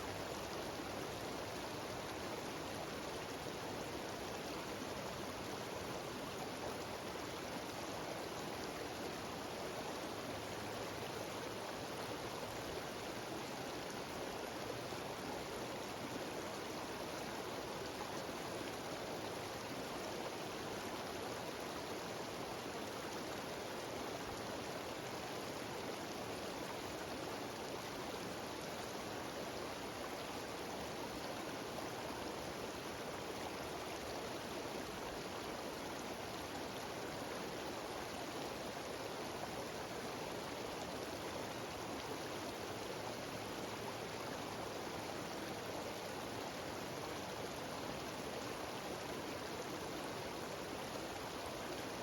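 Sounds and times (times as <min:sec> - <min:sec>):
waterfall: 0:00.0 - 0:52.0.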